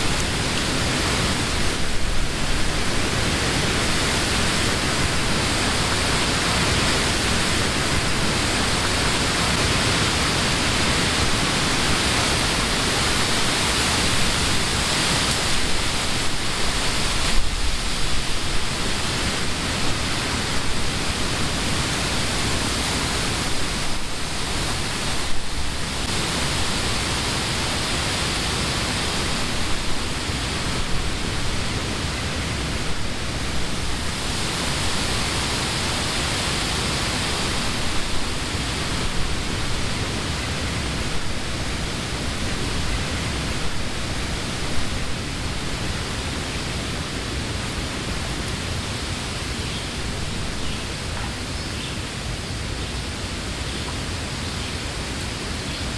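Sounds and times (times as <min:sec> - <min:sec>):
wind rustling tree leaves: 0:00.0 - 0:55.9.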